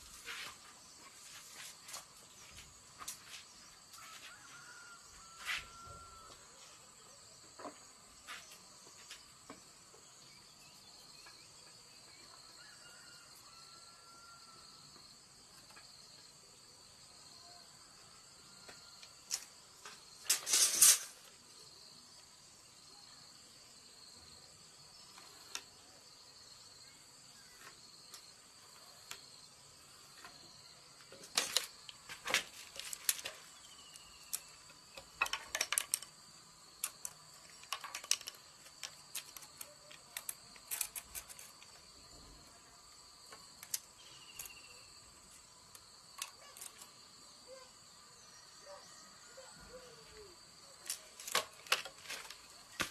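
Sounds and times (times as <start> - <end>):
crickets chirring: 0.0 - 52.9.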